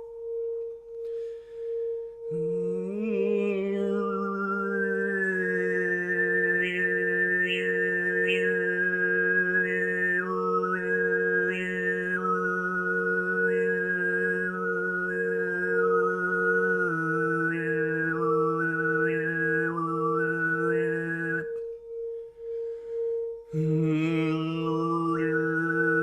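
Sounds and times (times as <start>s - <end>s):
overtone throat singing: 0.0s - 26.0s
singing bowl ringing: 0.0s - 26.0s.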